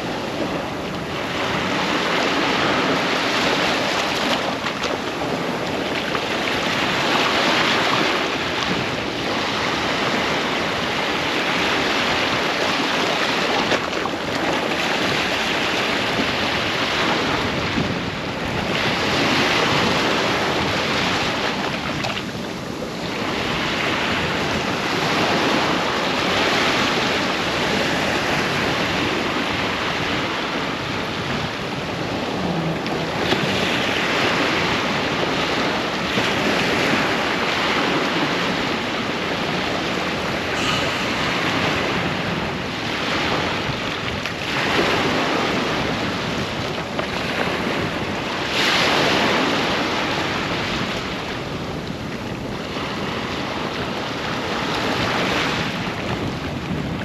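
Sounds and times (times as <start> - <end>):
ocean waves breaking: 0.0 - 57.0
wind buffeting microphone: 0.0 - 57.0.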